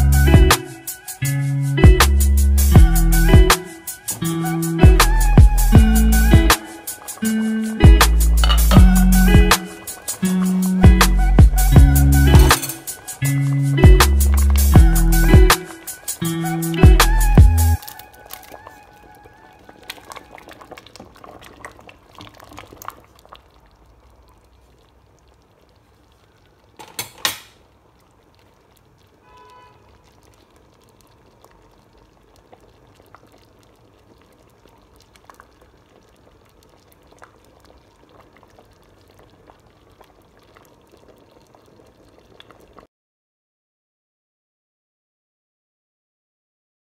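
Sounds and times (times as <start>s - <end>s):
soup bubbling in a pot: 2.3s - 42.9s.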